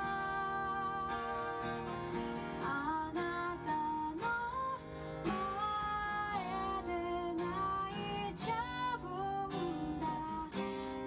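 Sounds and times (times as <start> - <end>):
acoustic guitar song with singing: 0.0 - 11.0.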